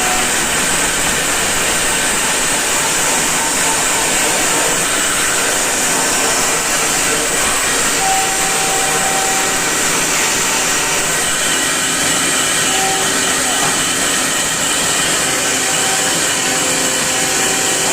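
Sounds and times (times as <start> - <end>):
woodworking power tool whirring: 0.0 - 17.9.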